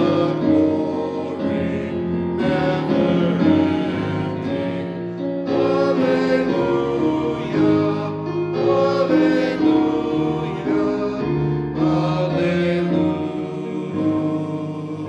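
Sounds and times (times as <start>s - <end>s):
sacred singing with instruments: 0.0s - 15.0s.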